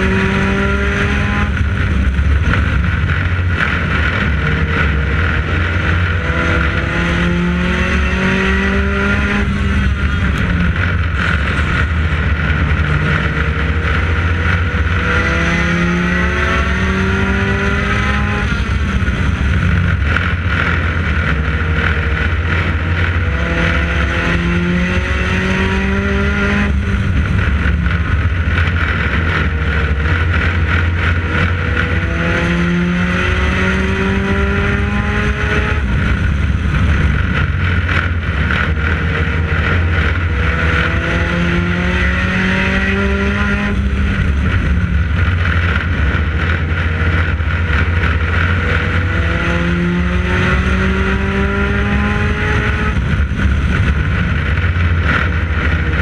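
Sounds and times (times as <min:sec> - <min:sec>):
race car engine revving: 0:00.0 - 0:56.0
wind and road noise: 0:00.0 - 0:56.0.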